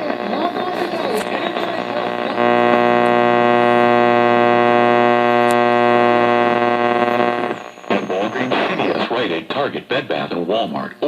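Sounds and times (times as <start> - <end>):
radio buzzing tone: 0.0 - 9.6.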